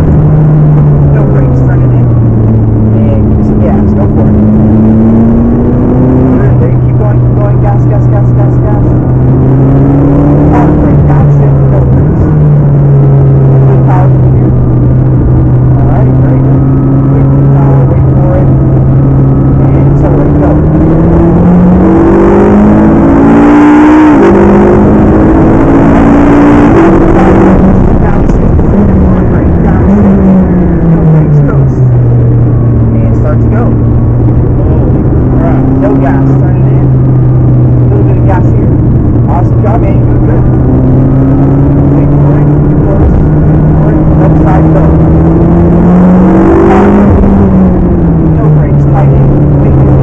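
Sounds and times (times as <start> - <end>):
car engine accelerating hard: 0.0 - 50.0
road and wind noise: 0.0 - 50.0.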